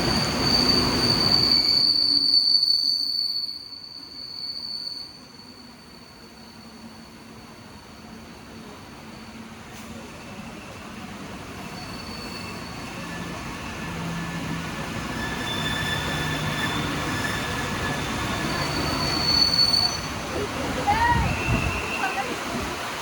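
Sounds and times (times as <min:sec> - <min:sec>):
train passing: 0:00.0 - 0:02.4, 0:05.2 - 0:23.0
wheels squealing: 0:00.0 - 0:07.3, 0:11.6 - 0:23.0.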